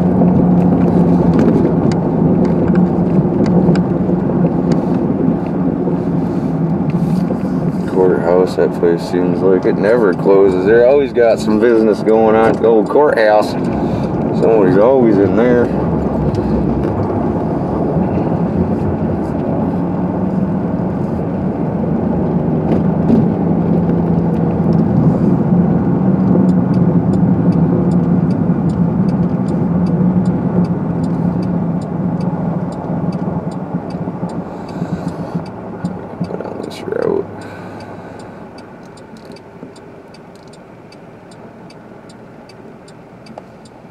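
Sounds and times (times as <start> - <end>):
car engine and road noise: 0.0 - 43.9
turn signal clicking: 0.1 - 43.9.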